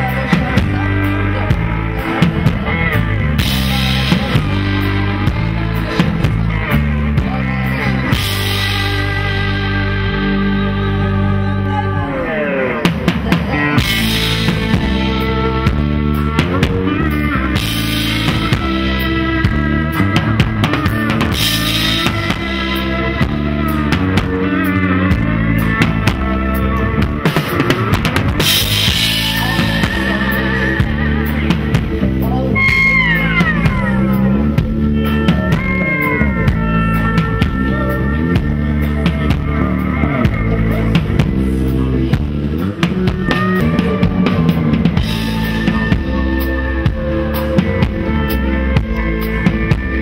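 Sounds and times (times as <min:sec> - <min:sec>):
drum kit with cymbals: 0:00.0 - 0:11.0, 0:12.8 - 0:50.0
bass line: 0:00.0 - 0:50.0
sliding lead instrument notes: 0:00.0 - 0:50.0.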